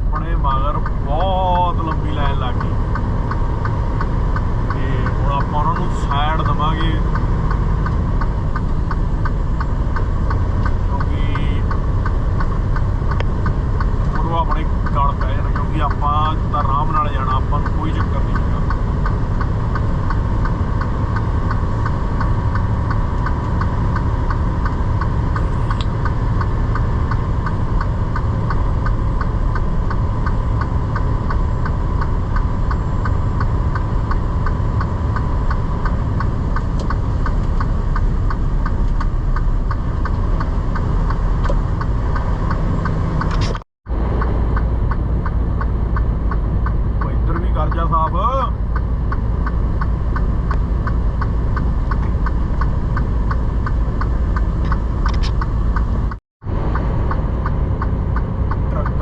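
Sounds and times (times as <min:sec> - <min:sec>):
truck engine and road rumble: 0:00.0 - 0:59.0
fast regular ticking: 0:00.1 - 0:59.0.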